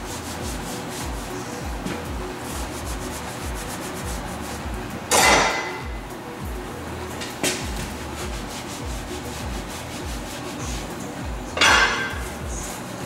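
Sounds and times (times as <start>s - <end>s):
cloth rag rubbing metal: 0.0s - 6.0s, 7.0s - 13.0s.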